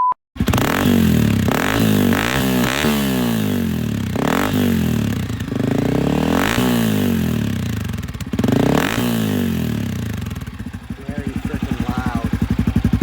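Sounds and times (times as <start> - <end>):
dirt bike engine revving: 0.4 - 13.0.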